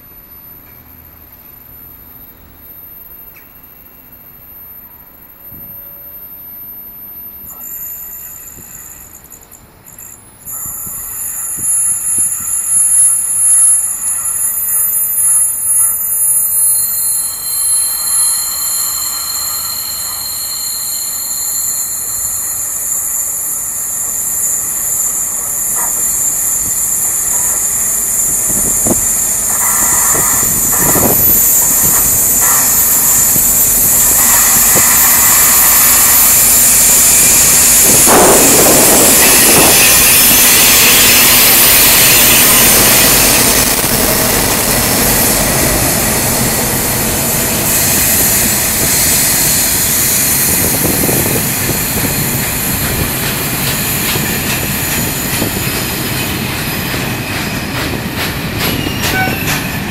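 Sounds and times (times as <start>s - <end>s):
diesel locomotives passing: 0.0s - 59.9s.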